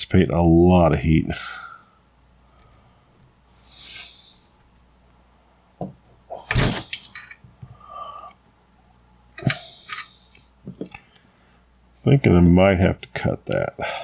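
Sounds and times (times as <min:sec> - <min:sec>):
soft hiss: 0:00.0 - 0:12.4.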